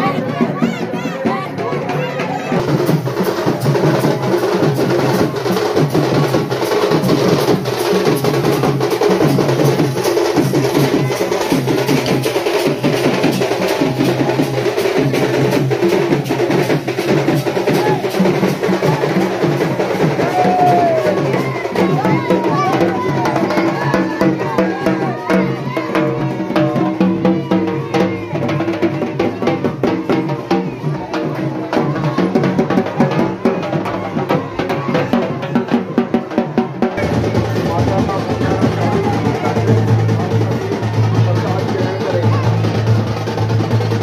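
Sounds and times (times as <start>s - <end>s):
crowd voices: 0.0s - 44.0s
drums beating fast rhythm: 0.0s - 44.0s.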